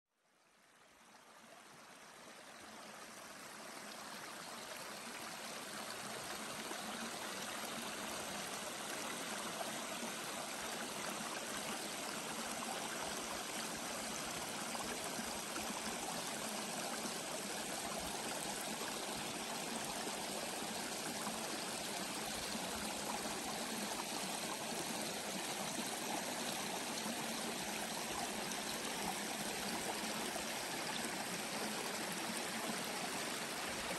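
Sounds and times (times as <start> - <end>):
brook babbling over stones: 0.3 - 33.9.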